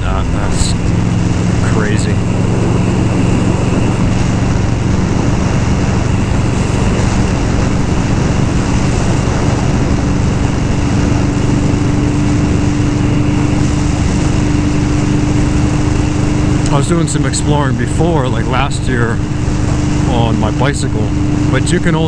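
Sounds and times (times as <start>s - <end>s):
high steady hum: 0.0s - 22.0s
motorcycle engine running: 0.0s - 22.0s
wind noise on microphone: 0.0s - 22.0s.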